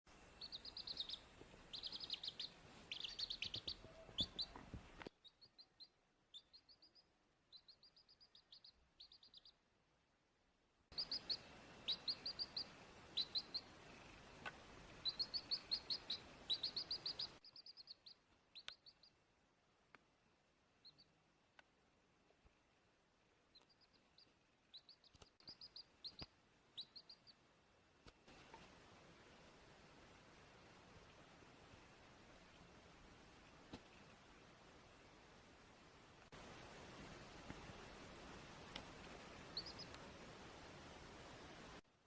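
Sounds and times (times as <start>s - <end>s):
faint background hiss: 0.1s - 42.0s.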